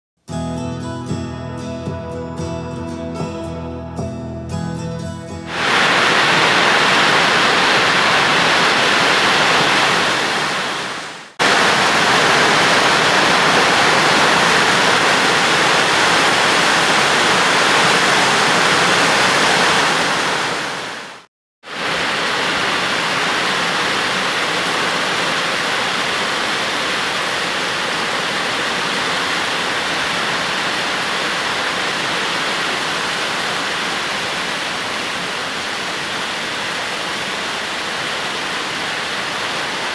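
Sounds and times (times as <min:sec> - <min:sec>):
heavy rain pouring: 0:05.5 - 0:39.9.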